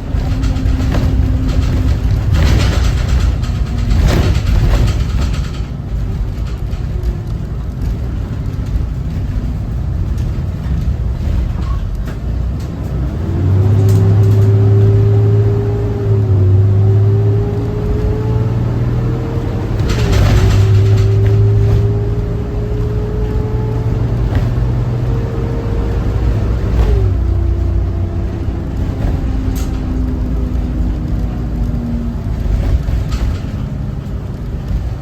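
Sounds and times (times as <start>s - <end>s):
bus diesel engine running: 0.0s - 35.0s
rising engine whine: 0.0s - 35.0s.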